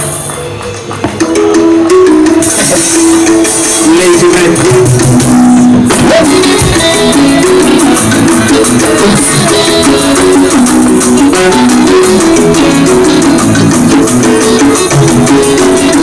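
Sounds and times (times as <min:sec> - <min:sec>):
drum kit: 0:00.0 - 0:16.0
shaker percussion: 0:00.0 - 0:16.0
melodic guitar lines: 0:01.1 - 0:16.0.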